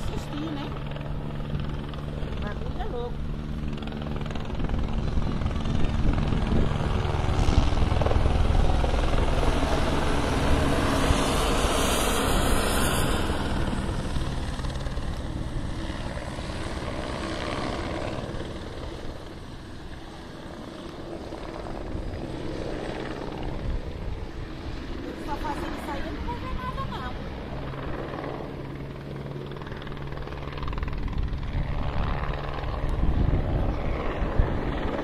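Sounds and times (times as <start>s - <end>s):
helicopter flying overhead: 0.0s - 35.0s.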